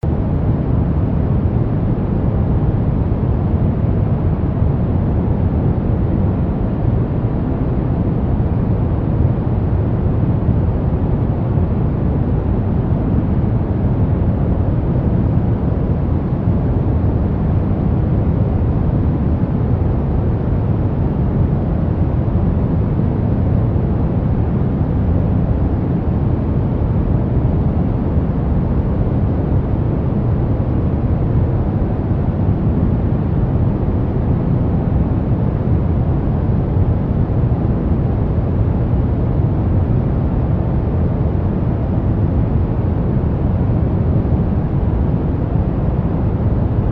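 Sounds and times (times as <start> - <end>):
steady pink noise: 0.0 - 46.9.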